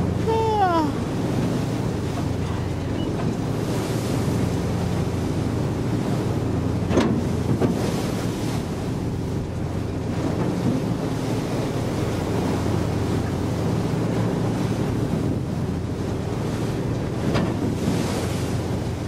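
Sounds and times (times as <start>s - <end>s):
rough sea washing: 0.0s - 19.0s
wind buffeting microphone: 0.0s - 19.0s.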